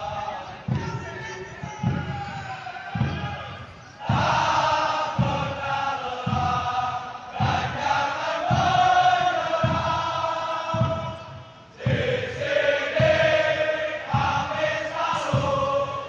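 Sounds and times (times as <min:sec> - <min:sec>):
crowd chanting in unison: 0:00.0 - 0:16.0
steady low drum beat: 0:00.0 - 0:16.0.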